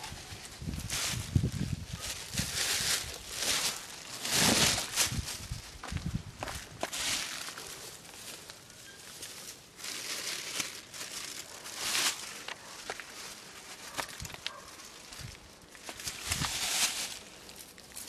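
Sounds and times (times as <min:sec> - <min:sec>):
rustling and crunching: 0:00.0 - 0:18.0.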